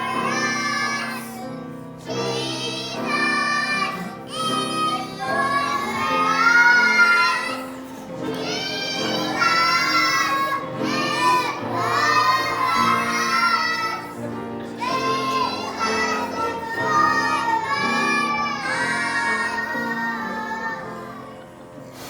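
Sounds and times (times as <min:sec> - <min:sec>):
child singing: 0:00.0 - 0:21.5.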